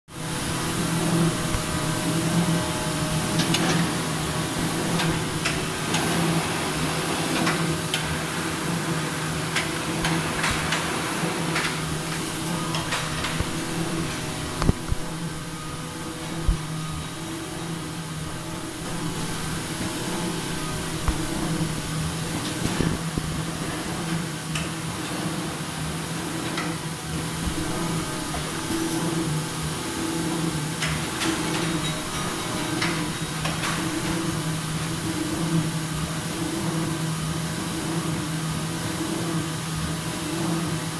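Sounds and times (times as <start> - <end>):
machine motor hum: 0.1 - 40.9.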